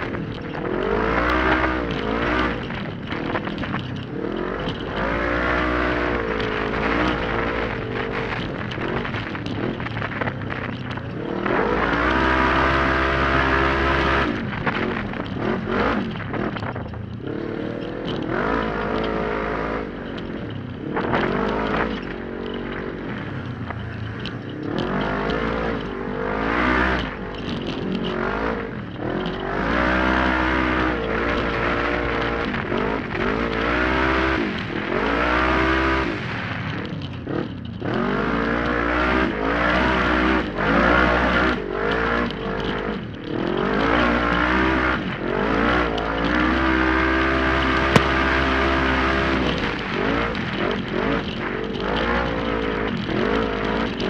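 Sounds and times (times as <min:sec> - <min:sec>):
utility vehicle engine revving: 0:00.0 - 0:54.0.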